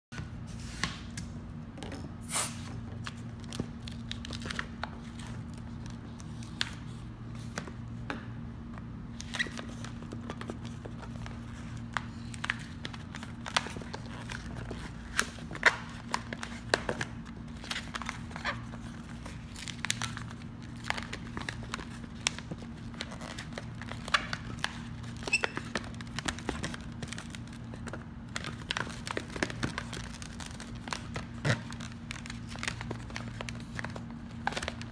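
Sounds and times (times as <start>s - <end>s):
steady low hum: 0.2s - 34.9s.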